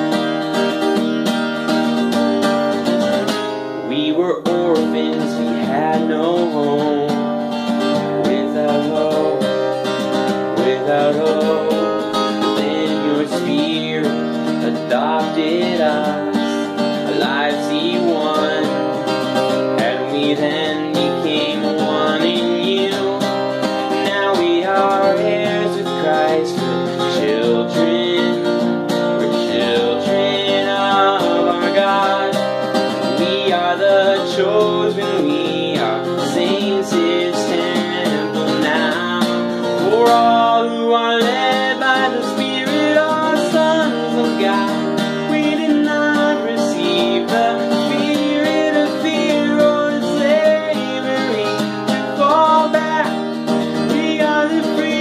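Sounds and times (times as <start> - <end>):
acoustic guitar strumming: 0.0 - 55.0
person singing: 3.1 - 55.0.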